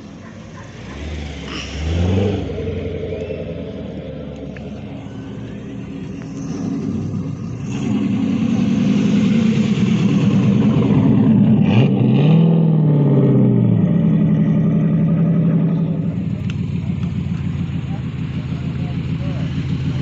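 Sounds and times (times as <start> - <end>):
car engine revving: 0.0 - 20.0
car engine running: 0.0 - 20.0.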